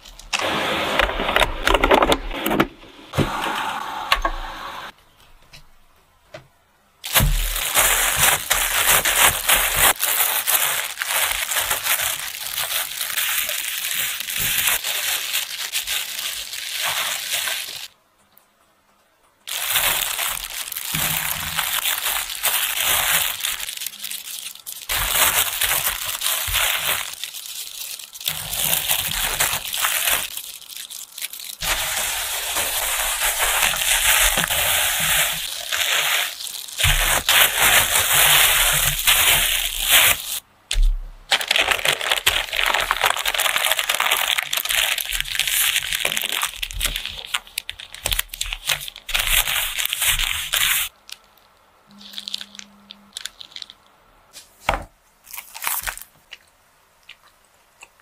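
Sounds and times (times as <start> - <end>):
paper crinkling and rustling: 7.0 - 18.0, 19.5 - 56.2.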